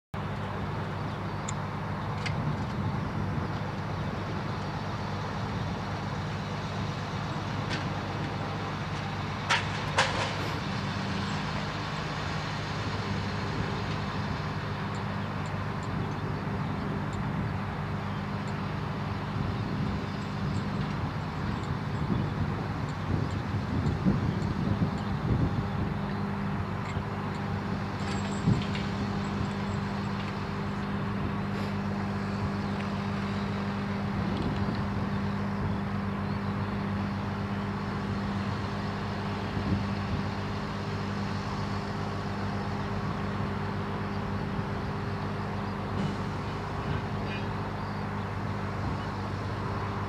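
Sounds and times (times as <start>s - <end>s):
diesel engine running steadily: 0.1s - 50.0s.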